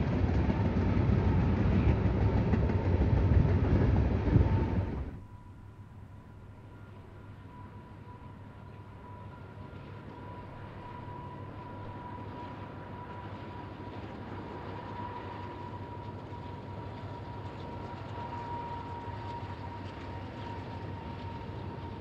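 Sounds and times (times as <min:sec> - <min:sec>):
freight train rumbling by: 0:00.0 - 0:22.0.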